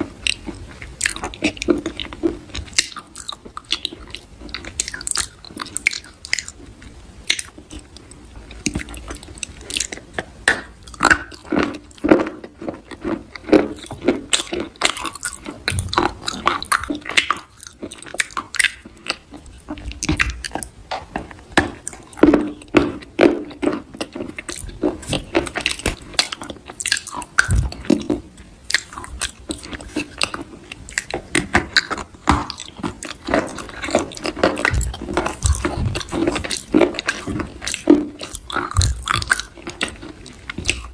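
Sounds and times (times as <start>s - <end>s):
crunching and chewing: 0.0s - 40.9s.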